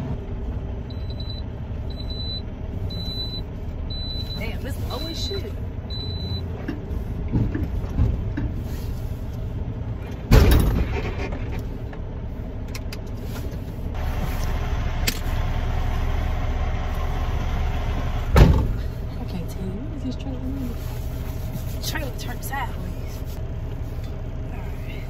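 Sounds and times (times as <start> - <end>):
truck idling: 0.0 - 25.0.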